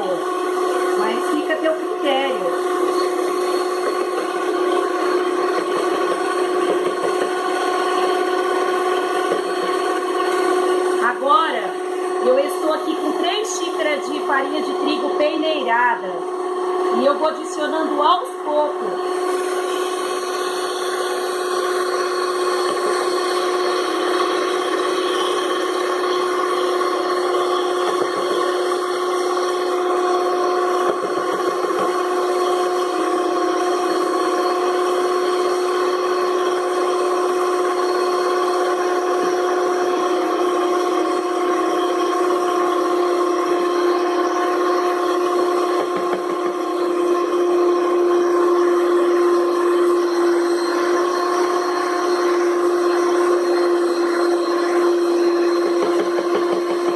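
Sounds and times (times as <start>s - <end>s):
stand mixer motor whining: 0.0s - 56.9s.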